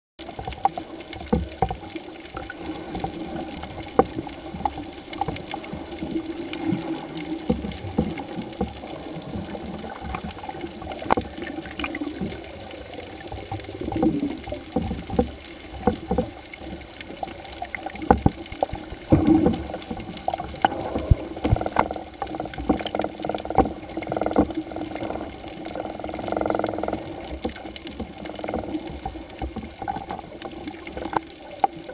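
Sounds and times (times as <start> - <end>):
muffled underwater water rush: 0.2 - 31.9
underwater clicks and crackles: 0.2 - 31.9.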